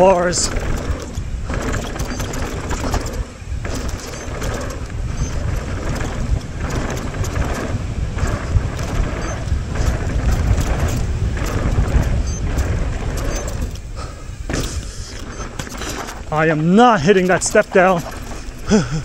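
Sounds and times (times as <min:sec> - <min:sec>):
mountain bike rattling: 0:00.0 - 0:19.0
tyres rumbling over bumps: 0:00.0 - 0:19.0
wind rush on microphone: 0:00.0 - 0:19.0.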